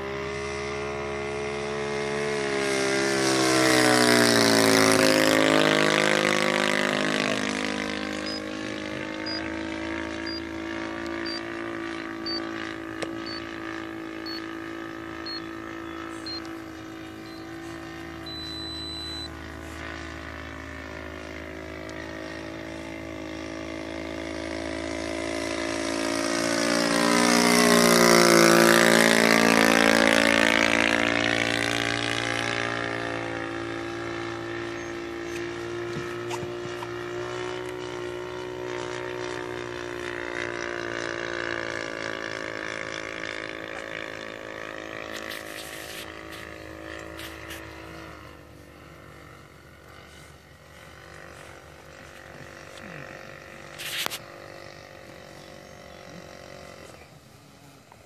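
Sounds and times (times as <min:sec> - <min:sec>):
model plane engine flying past: 0:00.0 - 0:58.0.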